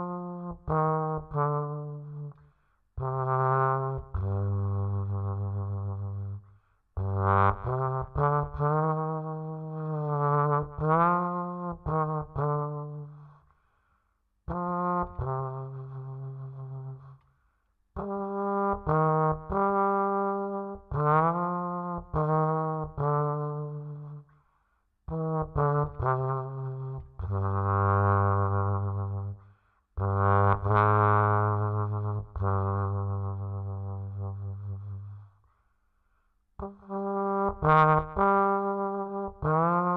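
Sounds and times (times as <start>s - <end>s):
low brass melody: 0.0s - 2.4s, 3.0s - 13.4s, 14.5s - 17.2s, 18.0s - 24.3s, 25.1s - 35.4s, 36.6s - 39.9s.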